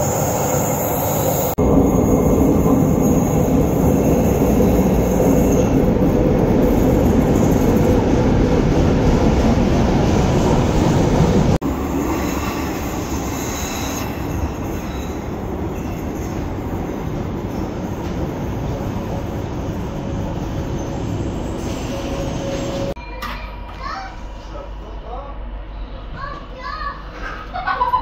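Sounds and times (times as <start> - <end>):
train rumble echoing in tunnel: 0.0 - 27.2
train arriving at platform: 0.0 - 28.0.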